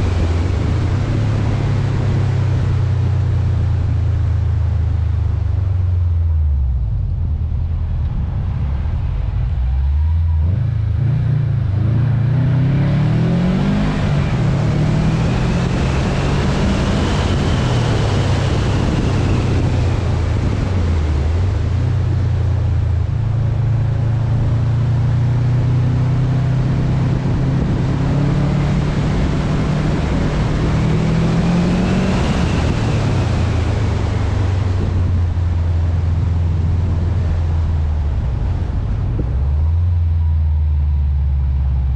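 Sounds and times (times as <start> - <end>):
wind rush on microphone: 0.0 - 40.5
car engine accelerating: 0.0 - 41.9.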